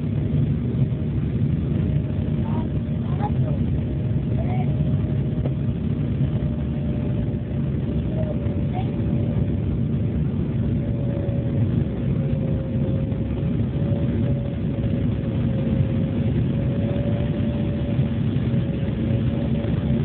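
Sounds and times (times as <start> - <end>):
jet engine whine: 0.0 - 20.0
jet engines rumbling: 0.0 - 20.0.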